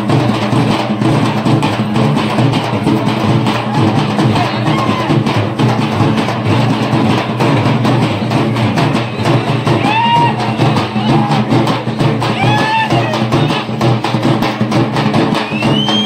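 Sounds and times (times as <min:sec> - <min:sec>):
frame drums beaten with sticks: 0:00.0 - 0:16.0.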